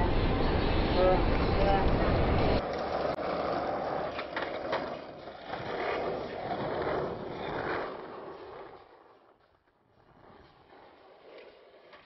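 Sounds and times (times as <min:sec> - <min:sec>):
skateboard wheels rolling on asphalt: 0:00.0 - 0:12.0
skateboard clack: 0:01.3 - 0:12.0.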